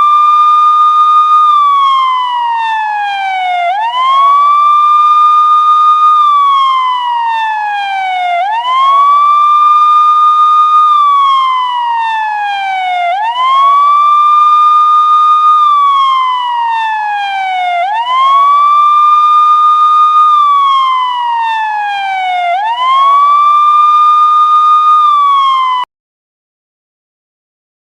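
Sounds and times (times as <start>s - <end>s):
ambulance siren wailing: 0.0s - 25.9s.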